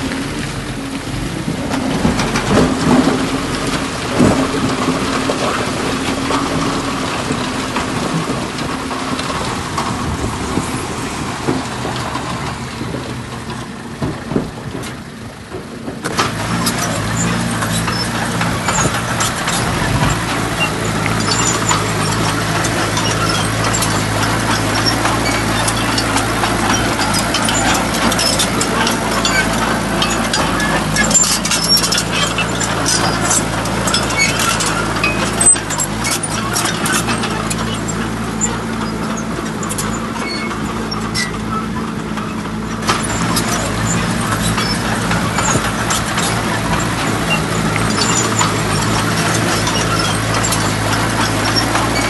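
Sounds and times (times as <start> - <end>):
diesel truck engine running: 0.0 - 52.0
clicks and knocks: 1.4 - 52.0.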